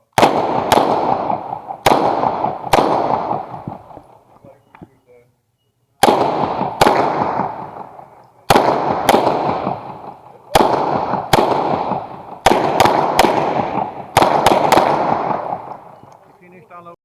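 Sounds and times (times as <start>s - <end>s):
pistol shots with echo: 0.0s - 4.3s, 6.0s - 16.3s.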